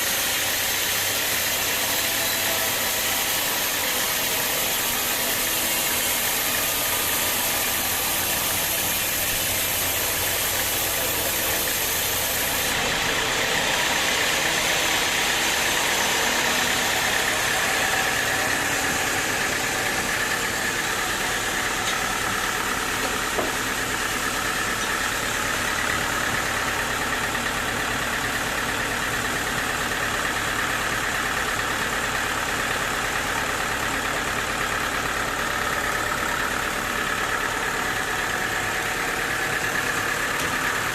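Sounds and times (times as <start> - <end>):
high saw whine: 0.0 - 40.9
motor-driven saw droning: 0.0 - 40.9.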